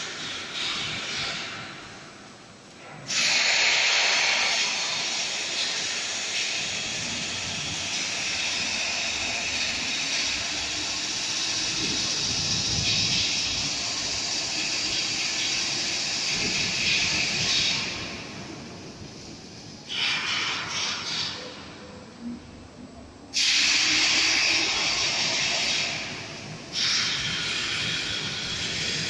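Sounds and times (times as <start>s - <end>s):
welding arc hissing: 0.0s - 21.8s, 23.3s - 29.0s.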